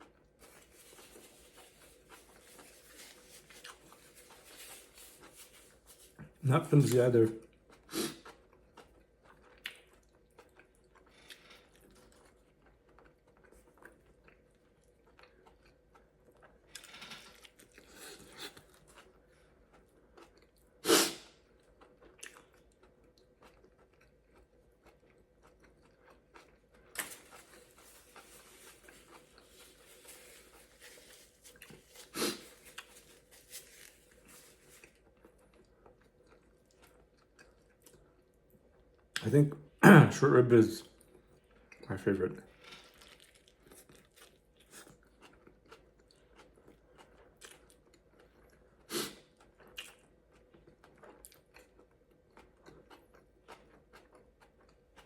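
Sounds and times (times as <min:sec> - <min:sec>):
chewing and biting food: 0:00.0 - 0:39.2, 0:40.8 - 0:55.0.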